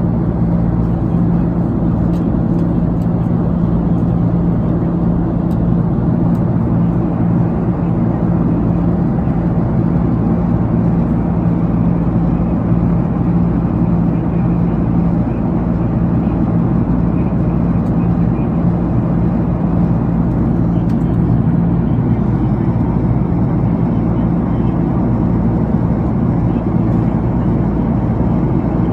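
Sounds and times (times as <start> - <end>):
airliner cabin air and engine rush: 0.0 - 28.9
constant low hum: 0.0 - 28.9.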